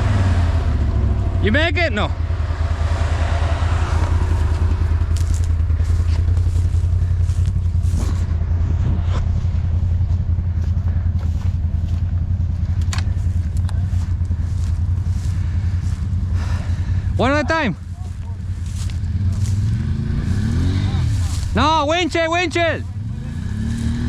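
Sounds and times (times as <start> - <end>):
atv engine idling: 0.0 - 24.0.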